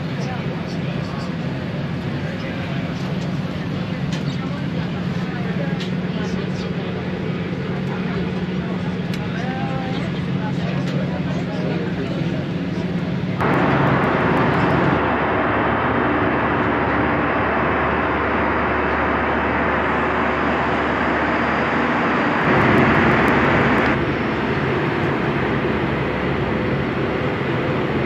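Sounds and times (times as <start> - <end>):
aircraft cabin engine and airflow rush: 0.0 - 28.0.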